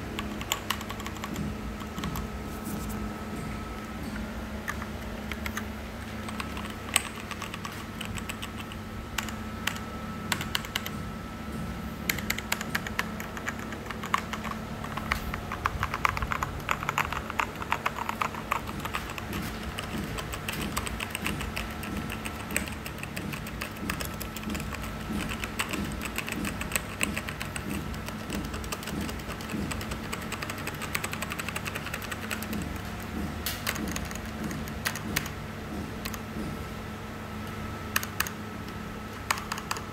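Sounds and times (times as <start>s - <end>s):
mechanical keyboard typing: 0.0s - 2.4s, 4.1s - 11.1s, 12.0s - 36.6s, 37.9s - 39.9s.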